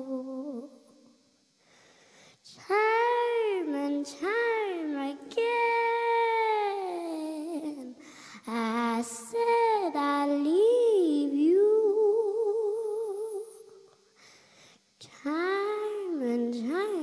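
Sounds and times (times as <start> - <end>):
girl singing into a microphone: 0.0 - 1.0, 2.4 - 14.0, 15.0 - 17.0.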